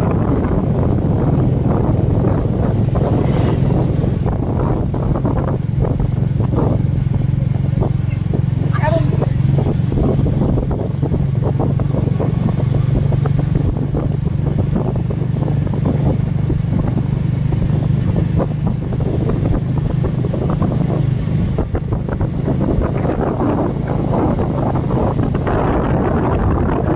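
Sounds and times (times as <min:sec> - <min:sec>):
small motorcycle engine humming: 0:00.0 - 0:26.9
wind buffeting on microphone: 0:00.0 - 0:26.9.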